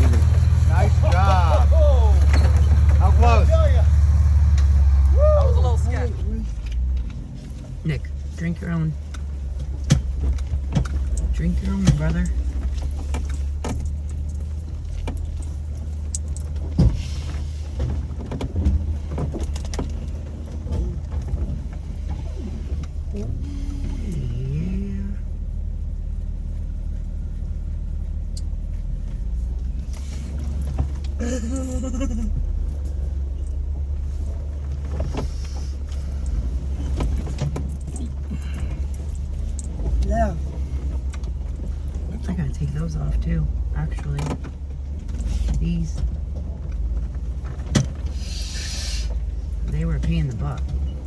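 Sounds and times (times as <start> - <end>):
car engine running low: 0.0 - 51.0.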